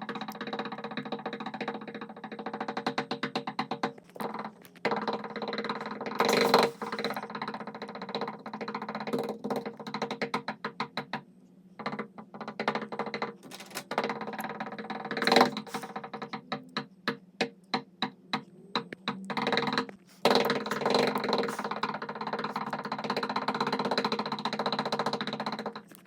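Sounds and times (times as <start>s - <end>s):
knocking on a door: 0.0s - 11.2s, 11.8s - 25.9s.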